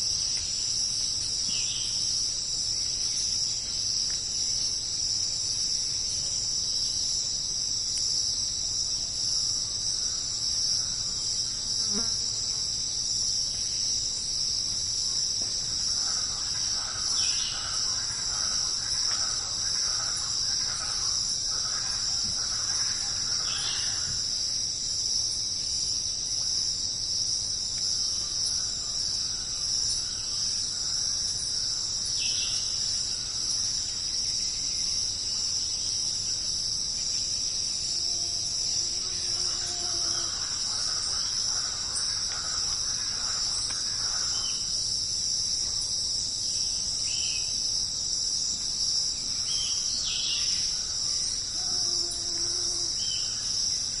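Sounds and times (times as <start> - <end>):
insect chorus shrilling: 0.0 - 54.0.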